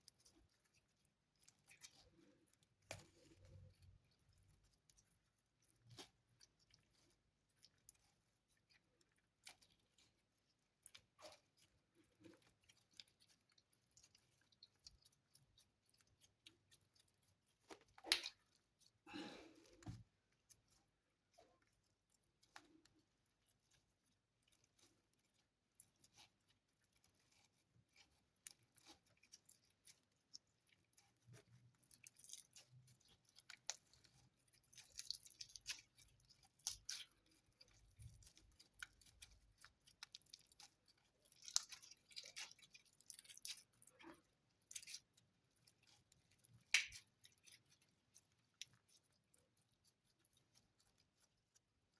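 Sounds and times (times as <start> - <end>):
slime squishing with sticky crackles: 0.0 - 51.9.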